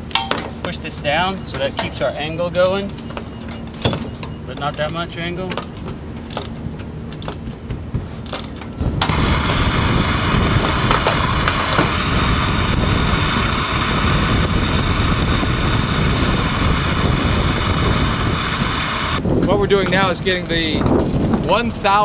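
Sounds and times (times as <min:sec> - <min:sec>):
steady engine-like running noise: 0:00.0 - 0:22.0.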